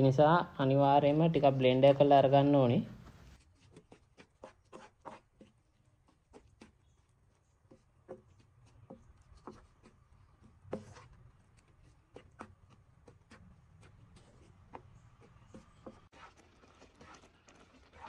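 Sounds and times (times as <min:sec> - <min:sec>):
wooden spatula scraping pan: 0:03.1 - 0:18.0.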